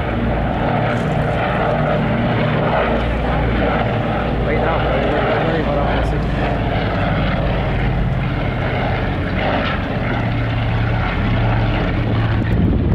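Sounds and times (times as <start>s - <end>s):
propeller plane engines droning: 0.0s - 12.9s.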